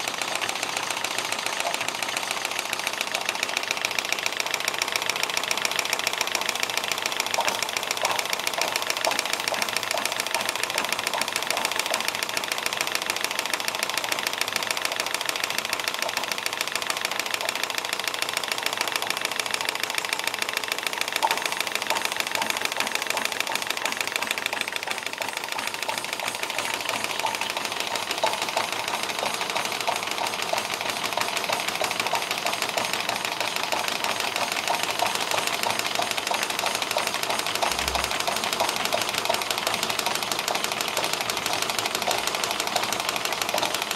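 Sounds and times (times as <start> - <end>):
mechanical clatter: 0.0 - 43.9
model steam engine chuffing: 0.0 - 43.9.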